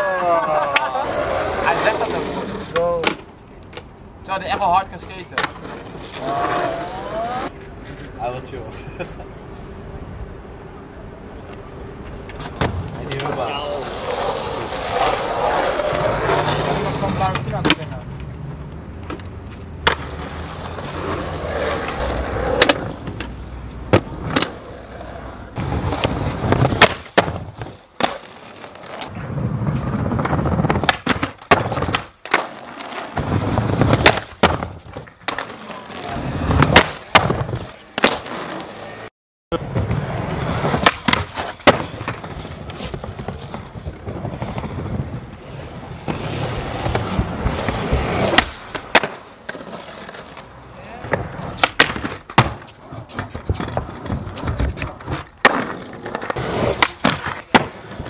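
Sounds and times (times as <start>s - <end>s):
skateboard wheels rolling on concrete: 0.0s - 58.0s
skateboard clacking: 0.1s - 8.0s, 12.3s - 38.8s, 39.6s - 45.4s, 46.8s - 58.0s.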